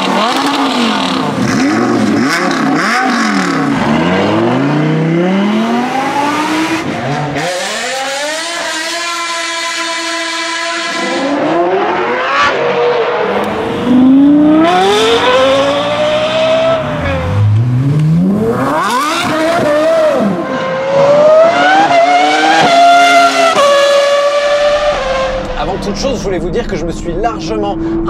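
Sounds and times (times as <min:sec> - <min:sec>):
car engine revving hard: 0:00.0 - 0:25.6.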